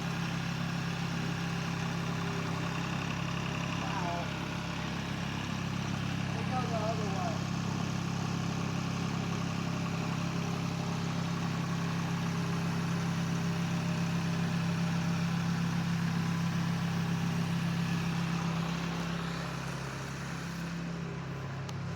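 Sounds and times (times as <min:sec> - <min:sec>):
engine running steadily: 0:00.0 - 0:21.9.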